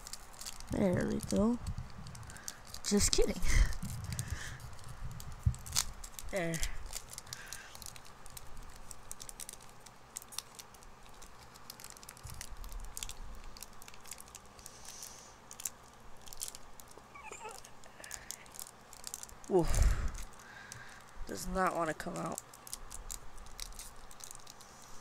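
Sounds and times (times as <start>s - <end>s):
foil wrapper crinkling: 0.0s - 25.0s.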